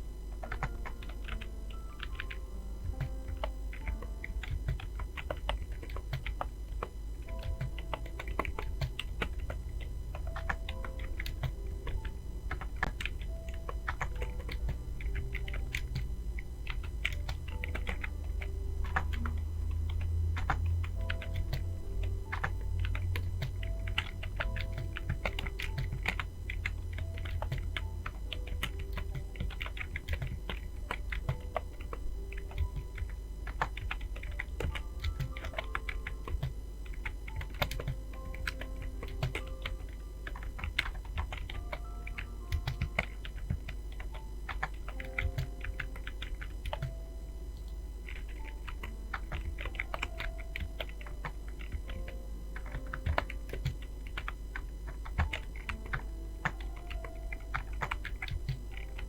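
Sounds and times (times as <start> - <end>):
computer keyboard typing: 0.0 - 59.0
faint melodic background music: 0.0 - 59.0
low steady hum: 0.0 - 59.0.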